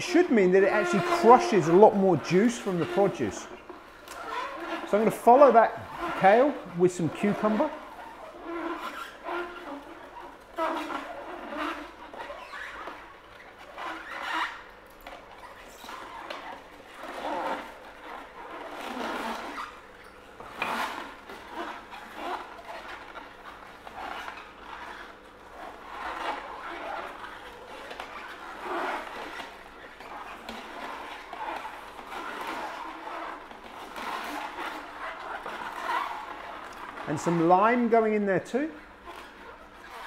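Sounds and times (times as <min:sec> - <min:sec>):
juicer crushing cucumber: 0:00.0 - 0:37.9.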